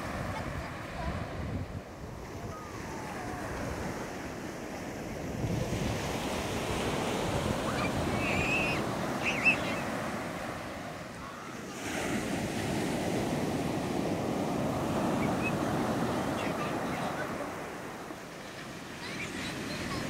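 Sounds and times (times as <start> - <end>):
sea waves breaking on beach: 0.0 - 20.0.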